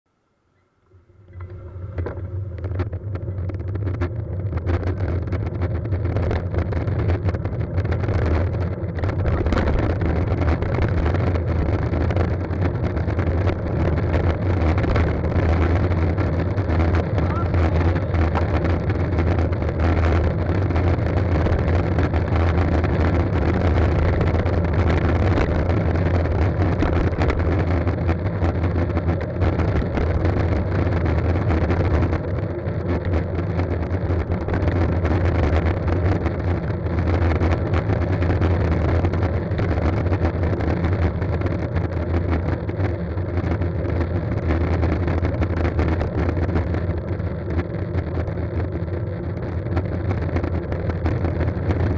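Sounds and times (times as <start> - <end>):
low rumble of road traffic: 0.1 - 51.9
wind on microphone: 1.0 - 51.9.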